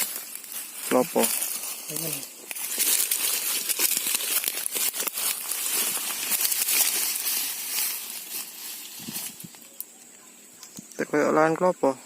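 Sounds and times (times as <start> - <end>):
close rustling and crinkling: 0.0 - 11.0.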